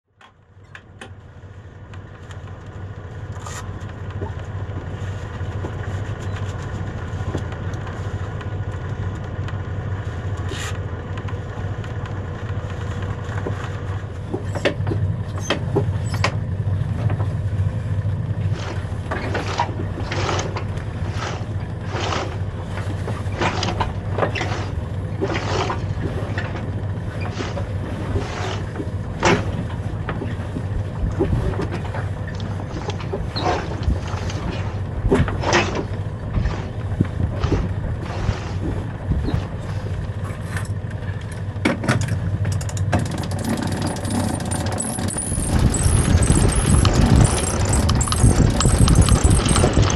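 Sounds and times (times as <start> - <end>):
boat engine running: 0.1 - 49.9.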